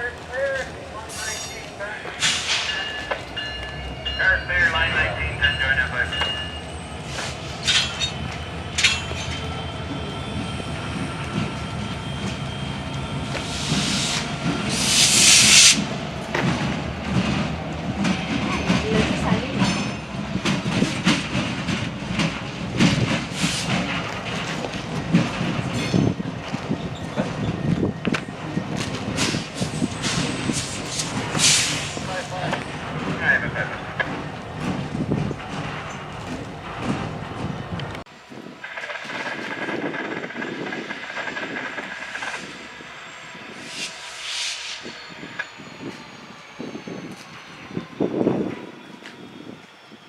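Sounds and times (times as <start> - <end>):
train wheels clacking on rails: 0.0 - 49.8
train rumbling past: 0.0 - 50.0.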